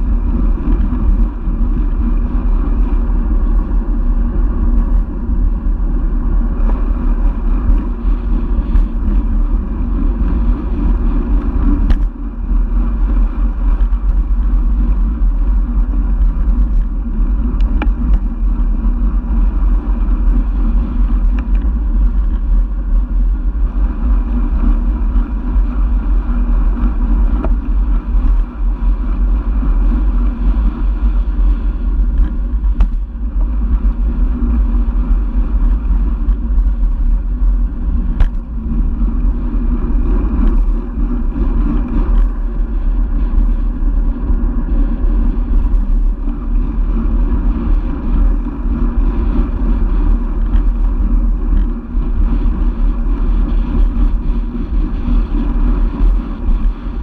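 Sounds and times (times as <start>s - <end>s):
tyres humming on asphalt: 0.0s - 57.0s
wind buffeting microphone: 0.0s - 57.0s.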